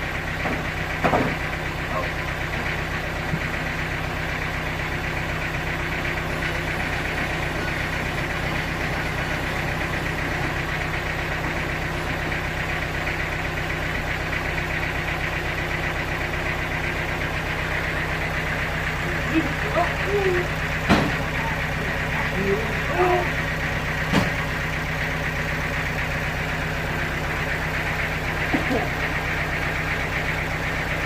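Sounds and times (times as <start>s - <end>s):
sawmill machinery drone: 0.0s - 31.0s.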